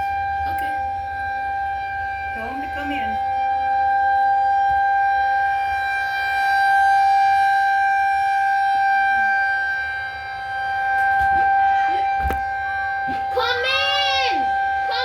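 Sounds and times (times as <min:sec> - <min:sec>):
outdoor warning siren steady tone: 0:00.0 - 0:15.0.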